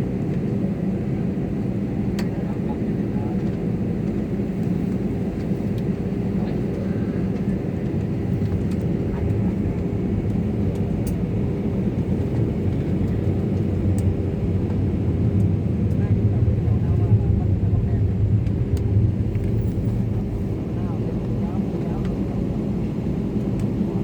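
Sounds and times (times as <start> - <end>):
airplane engines droning: 0.0 - 24.0.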